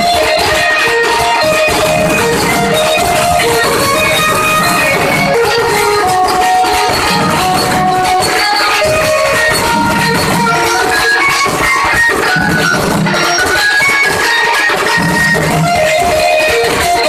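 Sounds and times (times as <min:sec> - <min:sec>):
handheld percussion strikes: 0:00.0 - 0:17.0
street band melody: 0:00.0 - 0:17.0.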